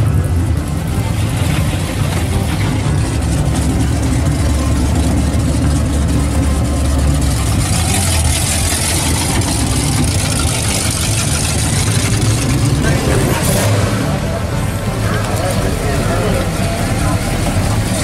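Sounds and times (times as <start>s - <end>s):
car engine running at low speed: 0.0s - 18.0s.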